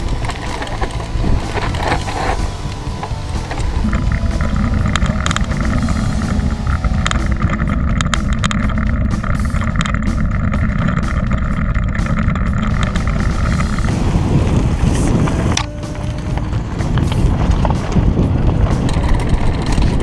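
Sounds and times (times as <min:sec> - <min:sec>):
tyres crunching on gravel: 0:00.0 - 0:20.0
wind rumble on microphone: 0:00.0 - 0:20.0.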